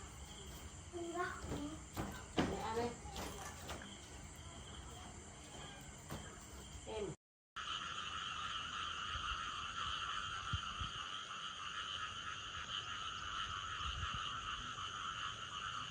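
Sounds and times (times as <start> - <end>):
night chorus of frogs and insects: 0.0 - 15.9.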